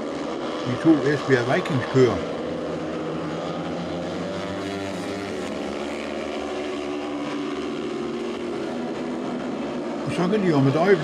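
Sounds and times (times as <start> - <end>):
motorcycle engines racing: 0.0 - 11.0.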